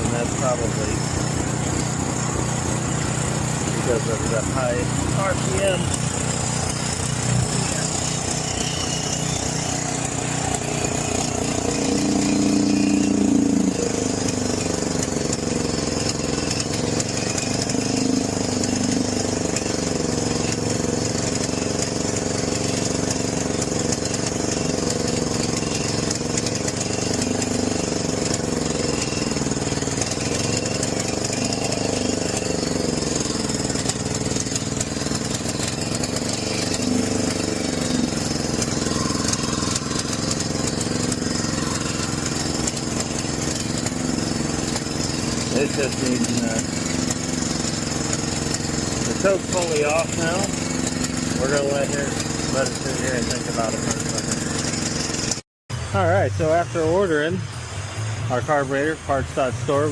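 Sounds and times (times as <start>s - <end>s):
generator engine running: 0.0s - 59.9s.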